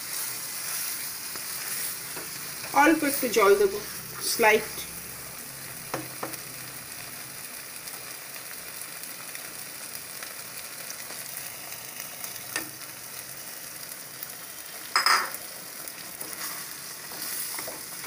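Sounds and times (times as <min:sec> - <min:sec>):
gravy sizzling in a pan: 0:00.0 - 0:18.0.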